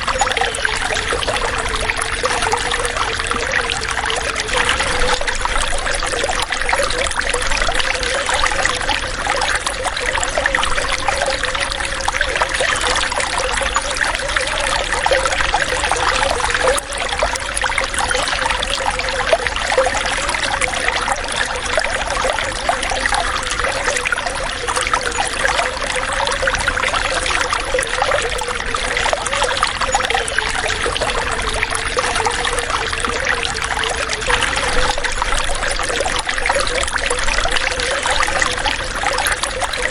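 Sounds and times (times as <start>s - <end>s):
flowing water with splashes: 0.0s - 39.9s.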